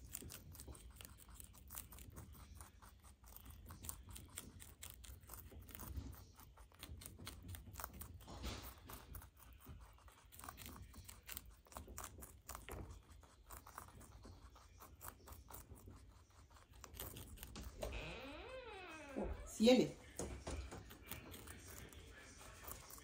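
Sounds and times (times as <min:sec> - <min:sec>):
rabbits chewing leaves: 0:00.0 - 0:18.0, 0:19.2 - 0:23.0.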